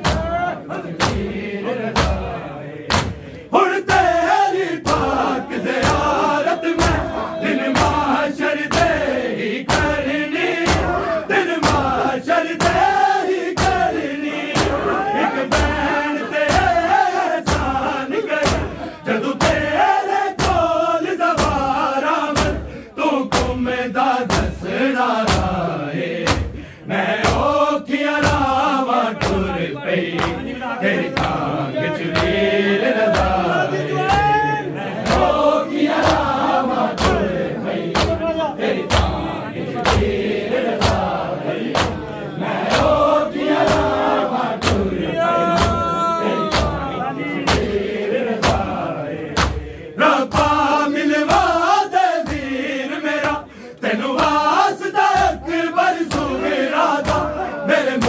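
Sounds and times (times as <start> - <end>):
men chanting in unison: 0.0 - 58.0
rhythmic chest striking: 0.0 - 58.0.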